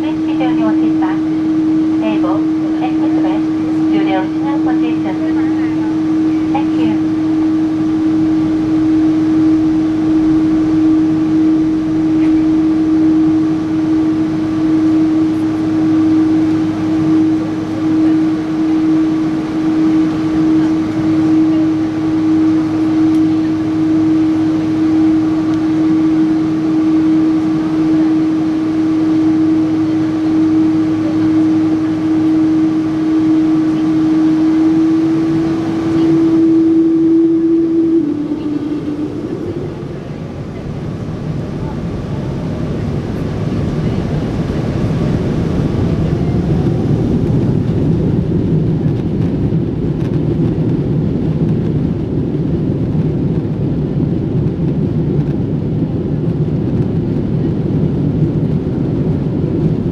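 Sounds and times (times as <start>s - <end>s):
jet engines heard from cabin: 0.0s - 59.9s.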